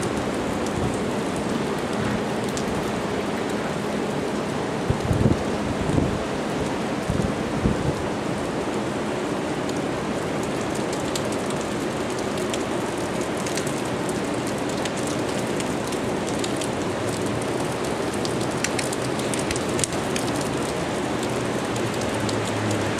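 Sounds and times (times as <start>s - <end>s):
heavy rain on hard surfaces: 0.0s - 22.9s.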